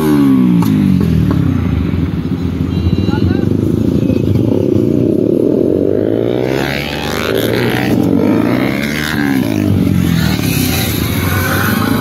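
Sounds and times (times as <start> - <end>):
motorcycles revving and pulling away: 0.0 - 12.0.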